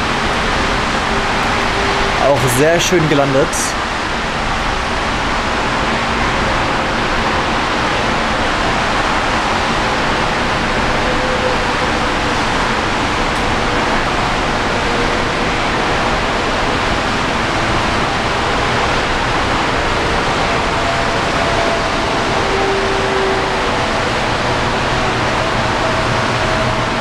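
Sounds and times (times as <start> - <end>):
distant jet engines: 0.0 - 27.0
heavy rain: 0.0 - 27.0.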